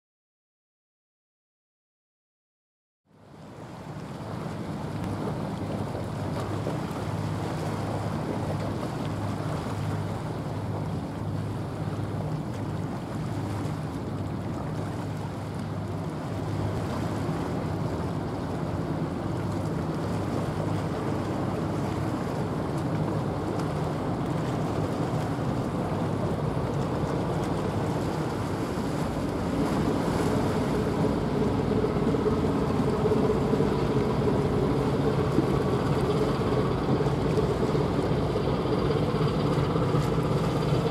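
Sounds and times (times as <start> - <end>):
wind and water noise: 3.1 - 40.9
ship engine droning: 3.2 - 40.9.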